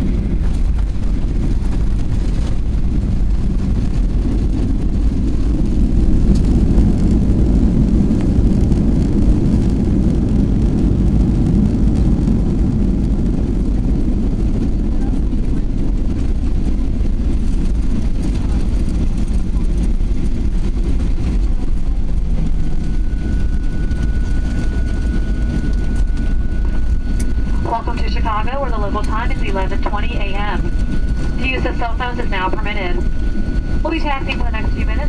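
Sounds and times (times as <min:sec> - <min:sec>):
aircraft cabin rumble: 0:00.0 - 0:35.0.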